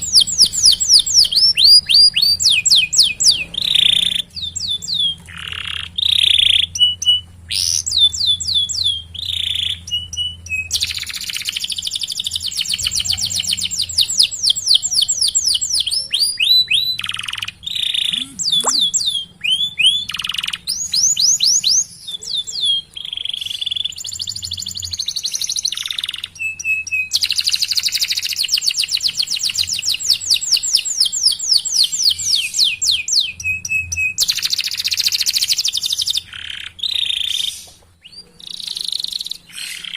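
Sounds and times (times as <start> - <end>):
canary chirping and whistling: 0.0 - 39.9
canary trilling: 0.0 - 39.9.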